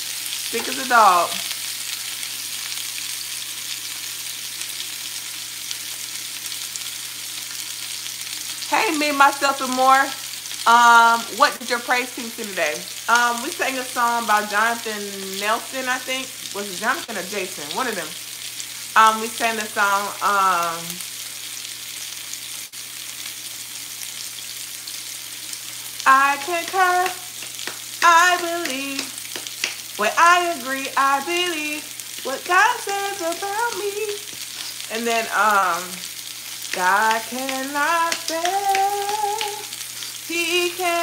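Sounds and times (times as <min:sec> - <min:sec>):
chicken sizzling in a frying pan: 0:00.0 - 0:41.0.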